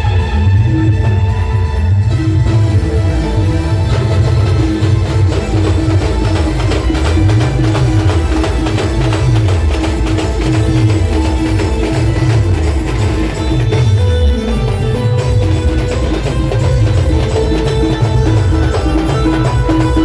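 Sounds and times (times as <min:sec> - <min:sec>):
amplified folk band music: 0:00.0 - 0:20.0
fast dense drumming: 0:00.0 - 0:20.0.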